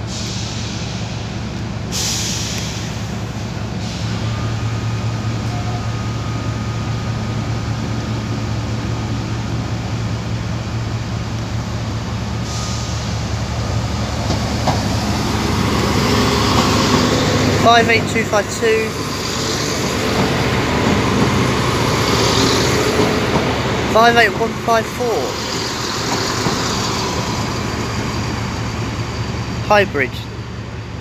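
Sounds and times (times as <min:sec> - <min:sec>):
diesel train engine drone: 0:00.0 - 0:31.0
diesel train passing: 0:00.0 - 0:31.0.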